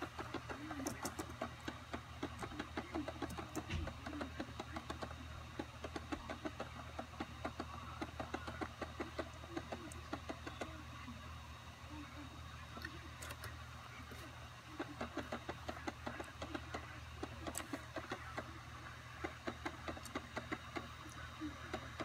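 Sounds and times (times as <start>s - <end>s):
optical drive clicking: 0.0s - 10.8s, 14.2s - 22.0s
low steady hum: 0.0s - 22.0s.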